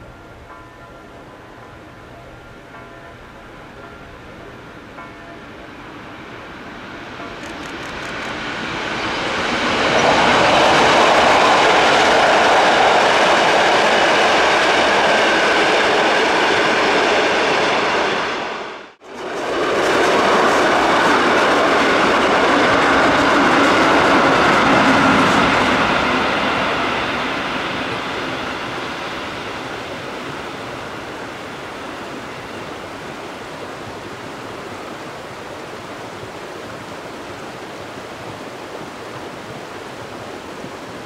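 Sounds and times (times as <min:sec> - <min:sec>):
train passing close by: 0:00.0 - 0:41.0.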